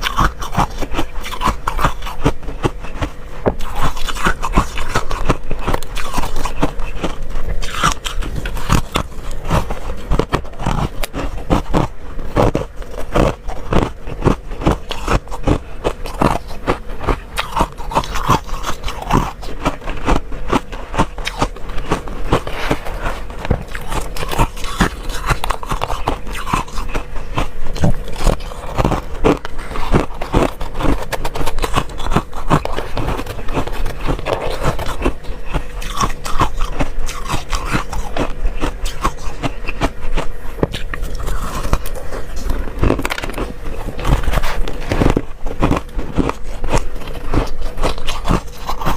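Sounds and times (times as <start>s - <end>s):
frost scraping: 0.0s - 40.0s, 40.8s - 48.9s
frost being crunched and chewed: 0.0s - 48.9s.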